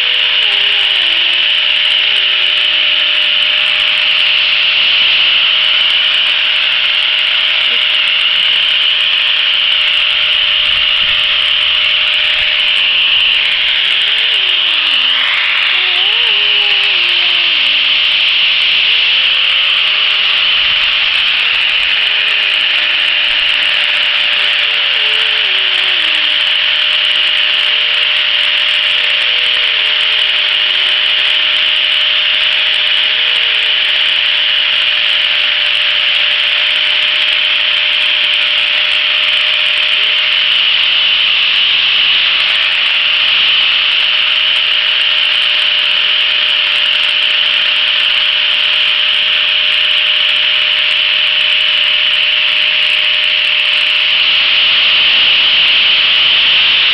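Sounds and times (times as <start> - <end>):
angle grinder sanding wood: 0.0 - 56.9.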